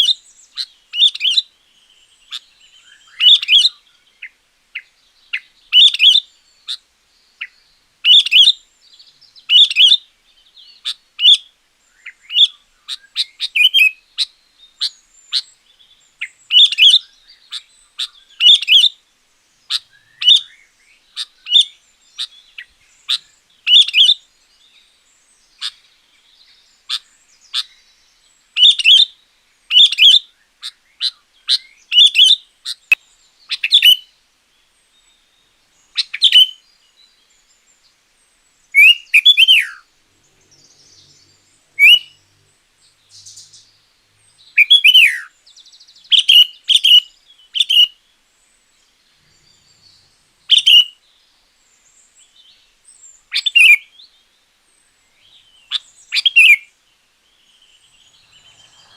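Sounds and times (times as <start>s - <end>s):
bulbul singing: 2.2s - 6.8s, 7.4s - 19.0s, 19.6s - 34.1s, 38.6s - 54.3s, 55.1s - 58.9s.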